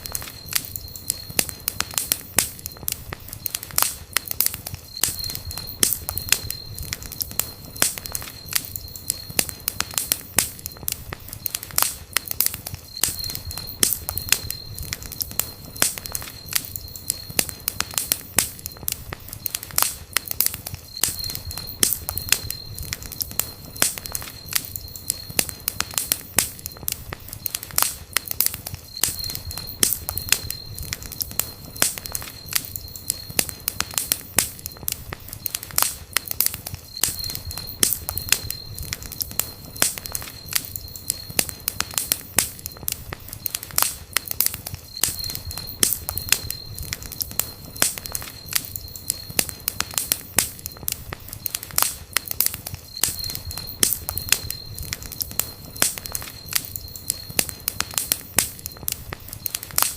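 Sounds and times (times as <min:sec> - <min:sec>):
thin high whistle: 0:00.0 - 0:11.9, 0:12.5 - 0:42.8, 0:43.4 - 0:50.8, 0:51.4 - 0:58.8
wood fire crackling and popping: 0:00.0 - 0:59.9.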